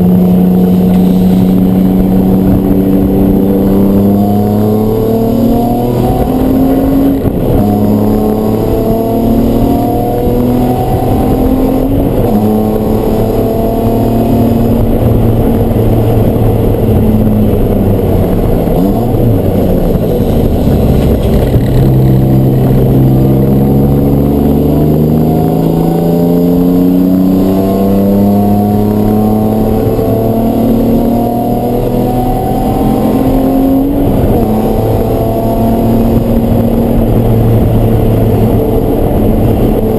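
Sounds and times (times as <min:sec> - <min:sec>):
race car engine at full load: 0:00.0 - 0:39.9.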